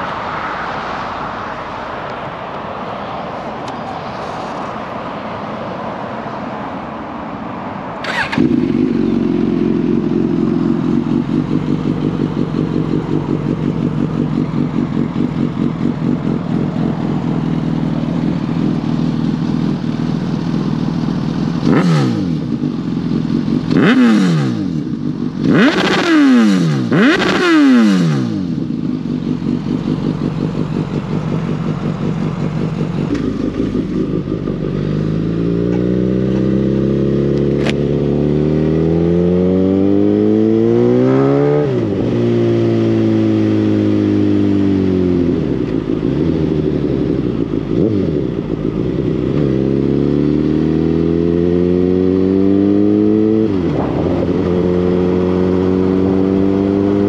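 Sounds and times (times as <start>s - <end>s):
motorcycle engine revving: 8.0s - 57.0s.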